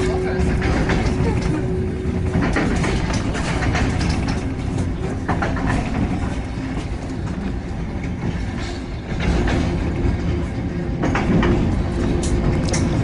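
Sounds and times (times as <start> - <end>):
train rumbling on track: 0.0 - 13.0
wheels clicking and clacking: 0.0 - 13.0.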